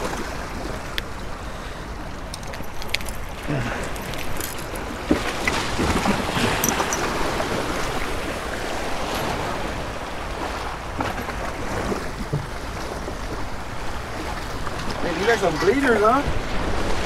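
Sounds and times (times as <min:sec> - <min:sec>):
small waves breaking on rocks: 0:00.0 - 0:17.0.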